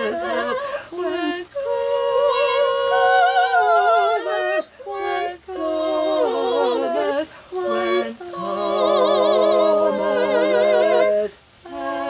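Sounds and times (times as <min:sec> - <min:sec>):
vocal group singing in harmony: 0:00.0 - 0:12.0.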